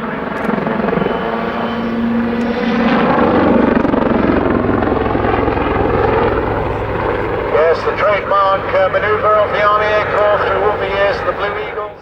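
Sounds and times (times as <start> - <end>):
helicopter rotor beat: 0.0 - 12.0
turbine engine whine: 0.0 - 12.0.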